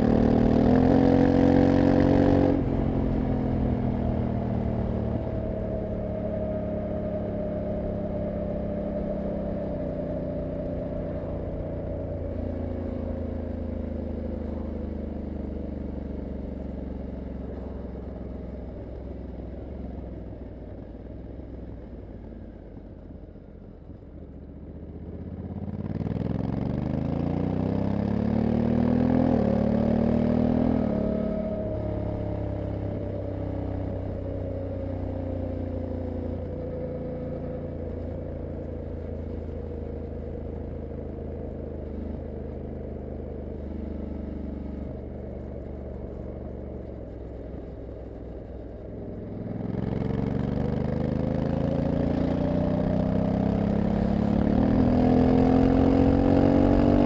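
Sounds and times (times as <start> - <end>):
motorcycle engine revving: 0.0 - 17.8, 25.4 - 57.0.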